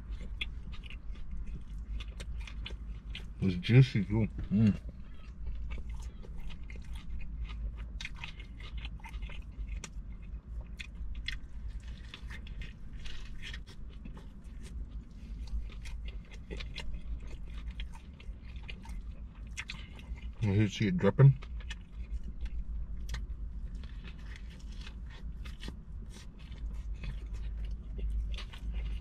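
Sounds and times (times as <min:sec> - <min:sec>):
wet chewing and smacking: 0:00.0 - 0:29.0.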